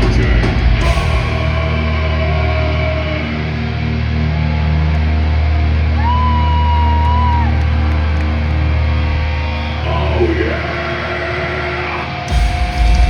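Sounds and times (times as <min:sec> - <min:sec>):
heavy metal band playing live: 0:00.0 - 0:13.0
low bass drone: 0:00.0 - 0:13.0.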